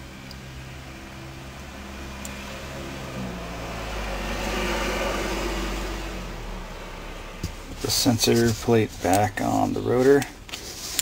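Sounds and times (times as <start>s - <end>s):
vehicle engine passing by: 0.0s - 9.0s.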